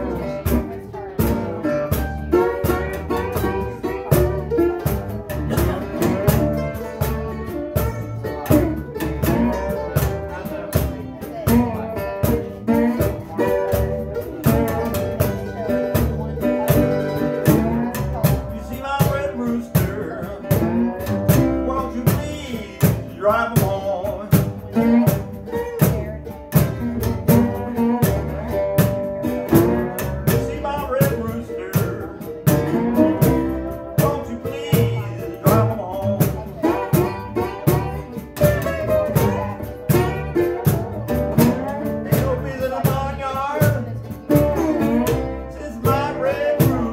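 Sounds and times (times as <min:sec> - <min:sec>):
acoustic guitars: 0:00.0 - 0:46.9
cajon beat: 0:00.0 - 0:46.9
upright bass: 0:00.0 - 0:46.9.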